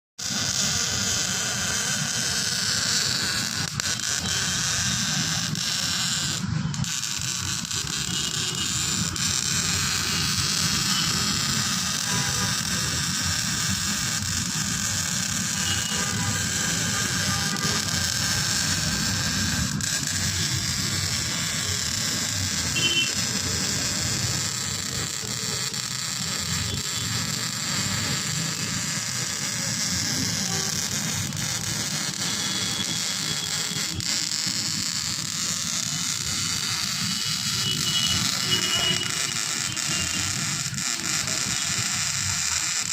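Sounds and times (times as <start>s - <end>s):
welding arc crackling and hissing: 0.2s - 42.9s.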